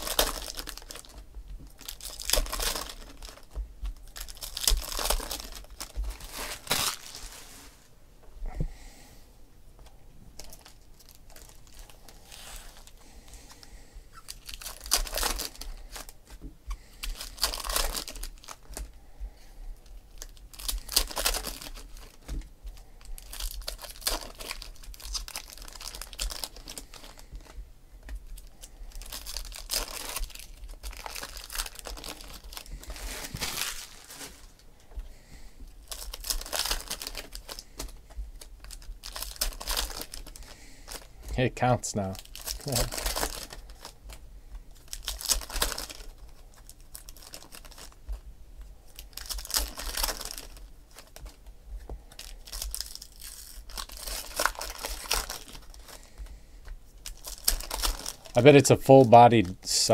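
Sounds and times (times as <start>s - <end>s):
foil wrappers crinkling and tearing: 0.0s - 7.7s, 10.4s - 19.0s, 19.8s - 59.9s.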